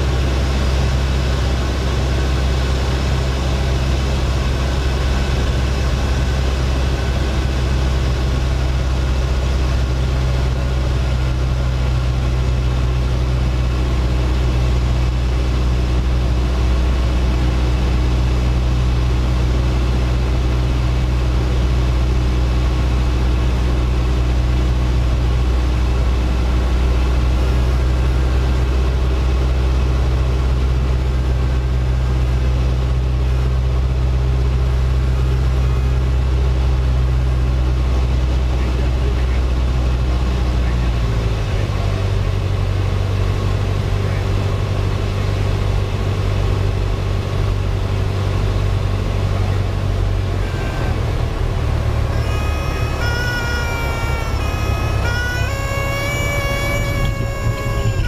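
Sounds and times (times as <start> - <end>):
plane engine droning: 0.0 - 58.0.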